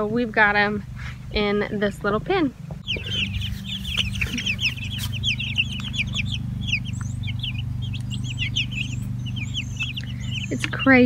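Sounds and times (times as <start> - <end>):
steady low hum: 0.0 - 11.0
chicks peeping: 0.3 - 11.0.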